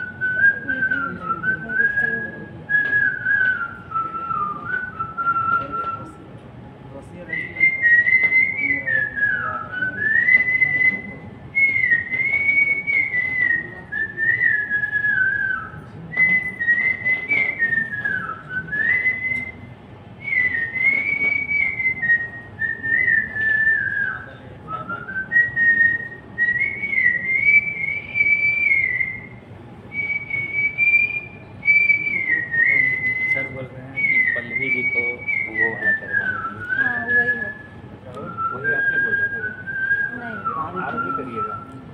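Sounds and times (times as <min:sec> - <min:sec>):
man whistling a melody: 0:00.0 - 0:06.3, 0:07.2 - 0:41.9.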